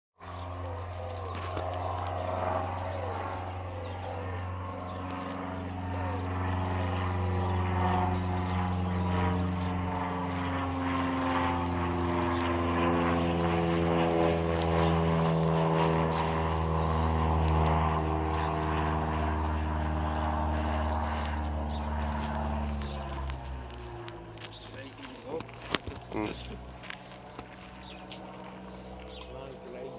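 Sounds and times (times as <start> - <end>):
propeller airplane engine drone: 0.2 - 29.9.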